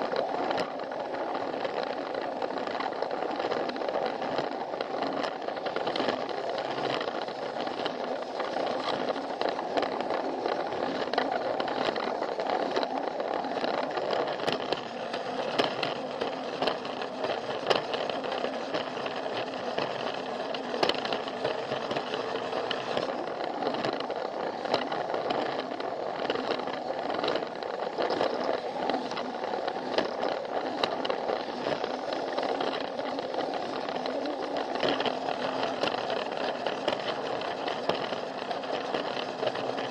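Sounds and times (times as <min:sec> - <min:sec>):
toy train motor whir: 0:00.0 - 0:39.9
wheels clicking over track joints: 0:00.0 - 0:39.9
wheels rattling on track: 0:00.0 - 0:39.9.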